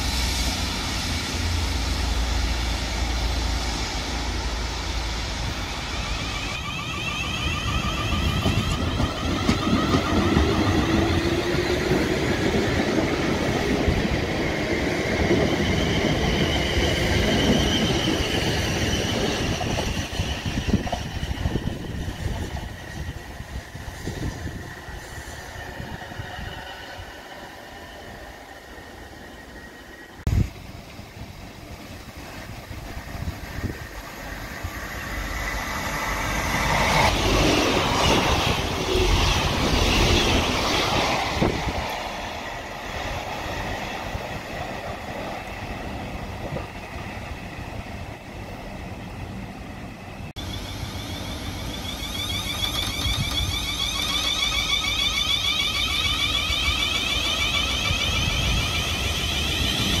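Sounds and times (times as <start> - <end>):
rising high-pitched traction whine: 0.0 - 30.4, 33.2 - 60.0
train wheel and rail noise: 0.0 - 60.0.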